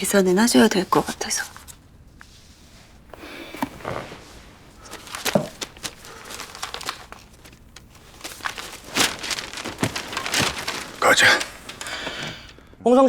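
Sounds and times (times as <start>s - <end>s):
material rustling and crinkling: 0.0s - 12.8s.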